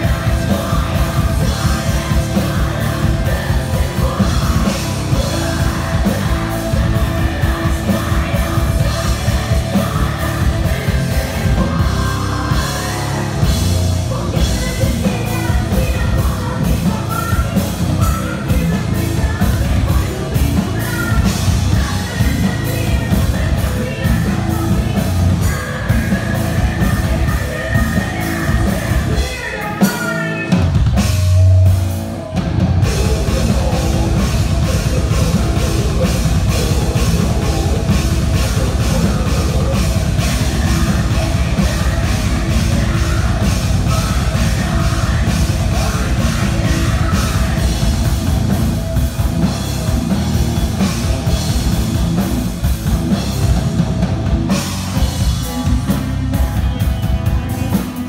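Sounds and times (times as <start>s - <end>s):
heavy metal band playing: 0.0s - 58.0s.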